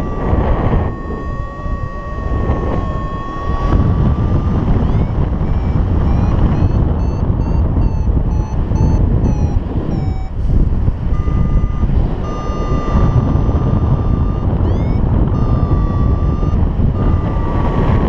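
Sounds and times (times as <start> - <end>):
variometer beeping: 0.0 - 18.0
wind rush on microphone: 0.0 - 18.0.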